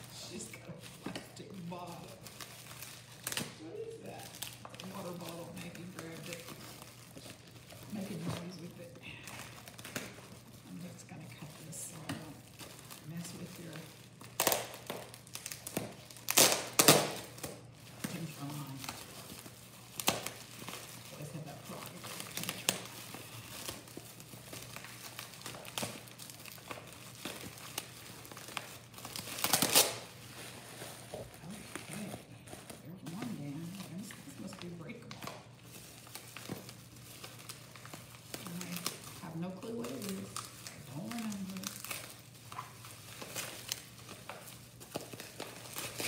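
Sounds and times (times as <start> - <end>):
packing wrap crinkling: 0.0 - 46.0.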